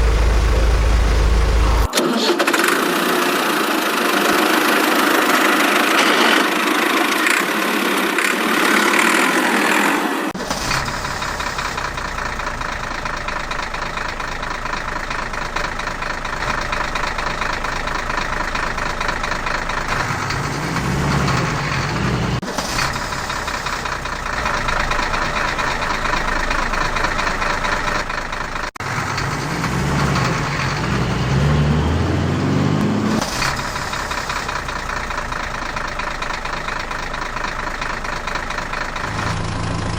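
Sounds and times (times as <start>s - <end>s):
engine running steadily: 0.0s - 9.6s, 10.2s - 39.9s.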